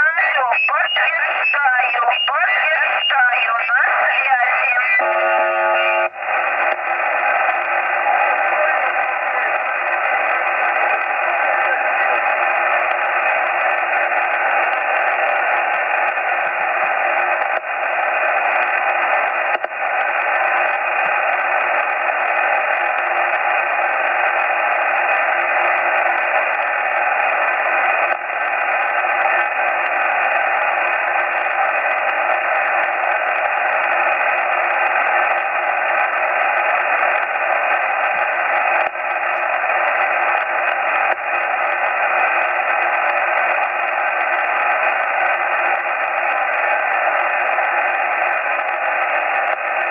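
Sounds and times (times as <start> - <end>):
shortwave radio static hiss: 0.0 - 49.9.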